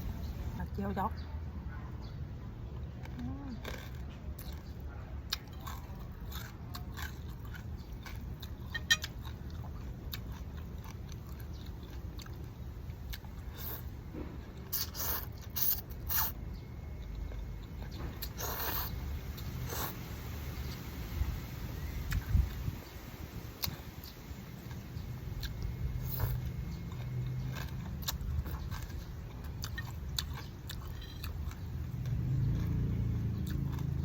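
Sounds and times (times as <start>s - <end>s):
person chewing and crunching: 3.0s - 20.9s, 23.6s - 34.0s.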